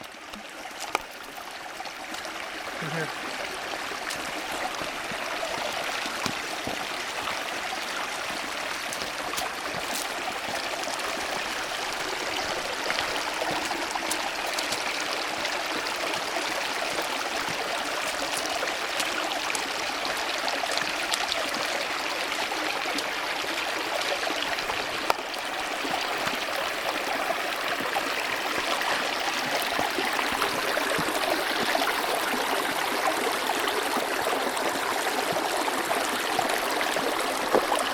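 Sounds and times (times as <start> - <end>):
creek water over rocks: 0.0 - 37.9.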